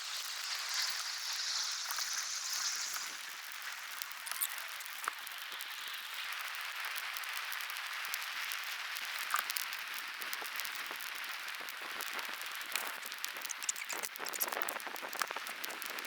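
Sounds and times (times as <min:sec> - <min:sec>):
fire hissing: 0:00.0 - 0:07.6, 0:08.4 - 0:16.0
bonfire crackling and popping: 0:00.0 - 0:16.0.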